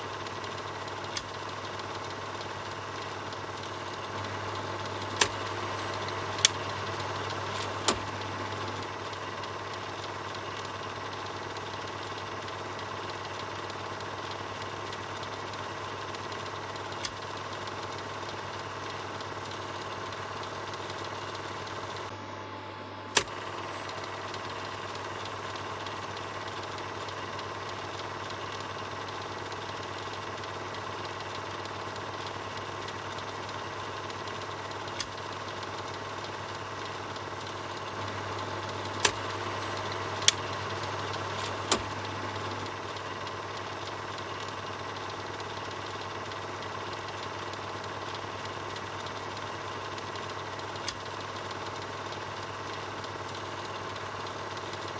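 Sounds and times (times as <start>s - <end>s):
film projector whirring: 0.0s - 54.9s
projector clicks: 0.1s - 22.1s, 23.1s - 54.9s.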